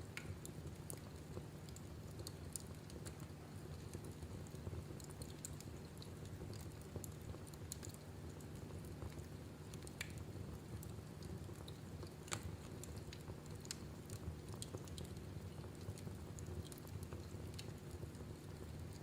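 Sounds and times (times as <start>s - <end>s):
low rumble of flame: 0.0s - 19.0s
wood fire crackling and popping: 0.0s - 19.0s.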